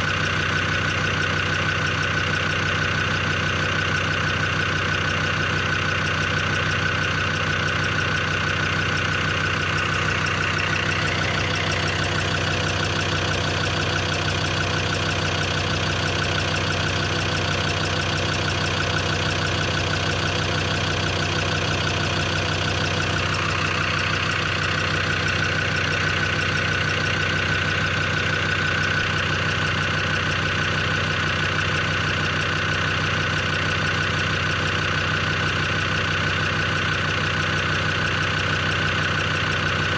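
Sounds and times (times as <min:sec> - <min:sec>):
diesel engine idling: 0:00.0 - 0:39.9
fast ticking in engine: 0:00.0 - 0:39.9.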